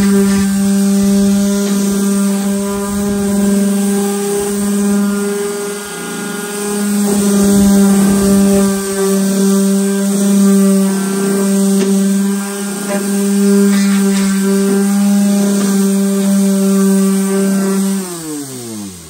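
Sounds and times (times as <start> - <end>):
electric power tool running: 0.0 - 19.0.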